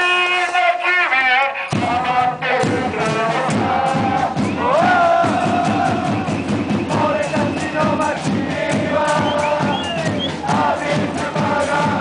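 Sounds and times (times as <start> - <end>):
crowd chanting in unison: 0.0 - 12.0
bass drum beating: 1.7 - 12.0.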